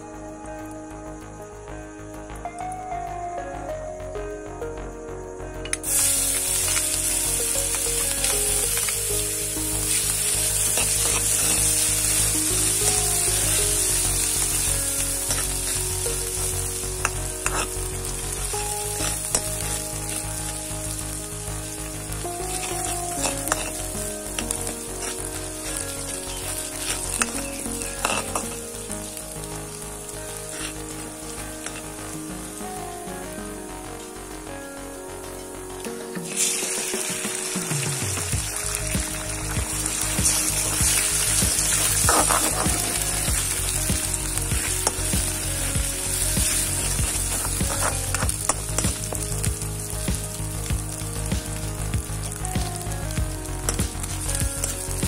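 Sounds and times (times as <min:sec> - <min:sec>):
garlic sizzling in hot oil: 0:05.7 - 0:55.0.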